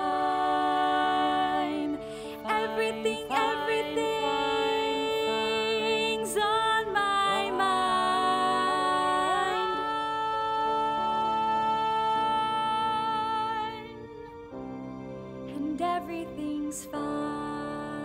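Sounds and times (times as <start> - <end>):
two women singing in harmony: 0.0 - 14.2, 15.5 - 18.0
instrumental backing music: 0.0 - 18.0.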